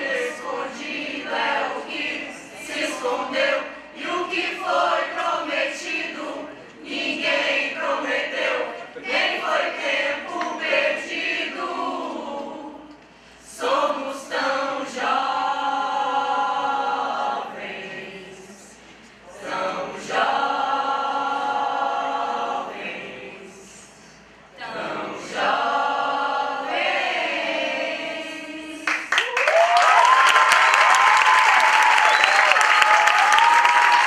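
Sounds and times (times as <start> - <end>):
choir singing: 0.0 - 29.1.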